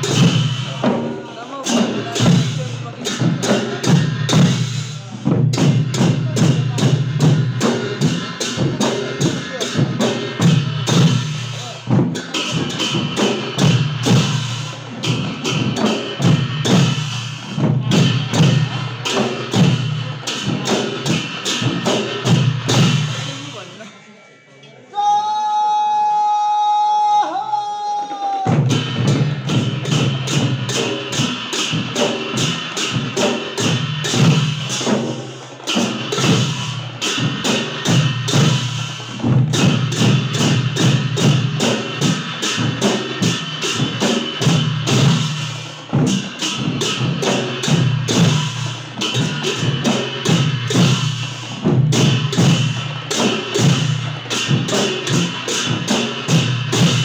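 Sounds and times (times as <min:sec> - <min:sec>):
drums beating fast rhythm: 0:00.0 - 0:23.9, 0:27.0 - 0:57.0
hand cymbals clashing: 0:00.0 - 0:24.5, 0:28.5 - 0:57.0.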